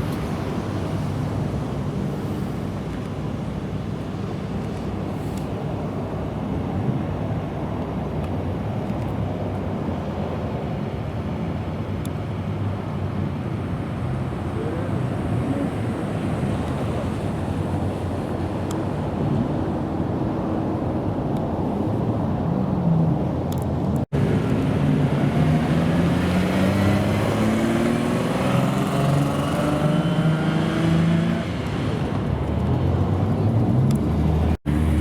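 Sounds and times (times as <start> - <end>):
car engines rumbling: 0.0 - 35.0.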